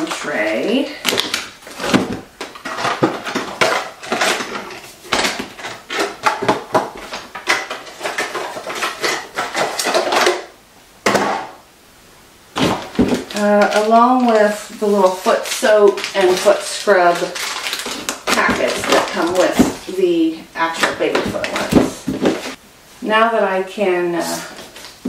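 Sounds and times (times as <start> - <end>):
plastic packets crinkling: 0.0 - 10.5, 12.5 - 22.6.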